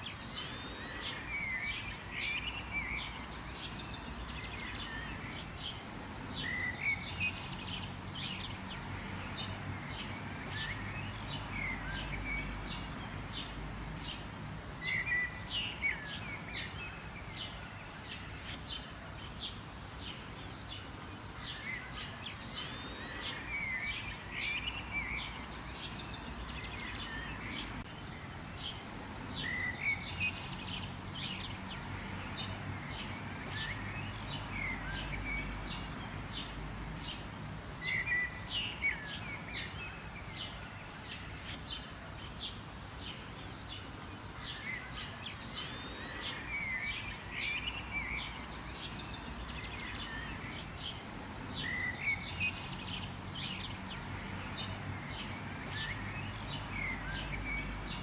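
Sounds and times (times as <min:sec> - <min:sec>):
low outdoor background noise: 0:00.0 - 0:58.0
wild birds chirping: 0:00.0 - 0:58.0.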